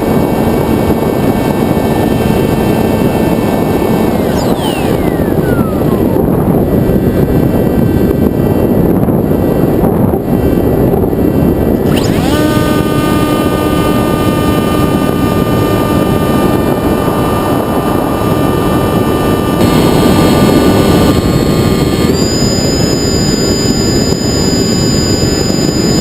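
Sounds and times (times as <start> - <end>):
electric motor whine: 0.0 - 8.8, 11.6 - 26.0
wind rush on airframe: 0.0 - 26.0.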